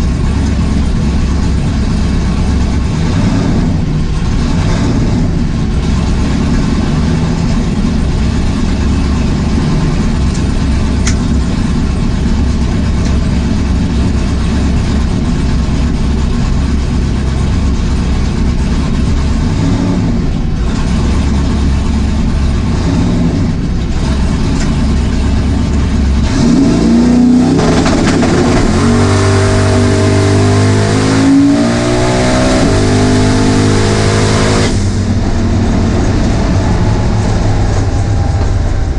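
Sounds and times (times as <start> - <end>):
car engine rumbling and revving: 0.0 - 38.9.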